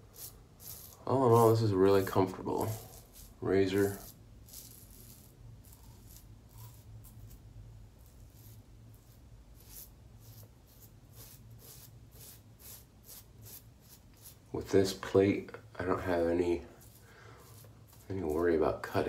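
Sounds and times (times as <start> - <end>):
razor scraping stubble: 0.0 - 15.2, 15.8 - 19.0.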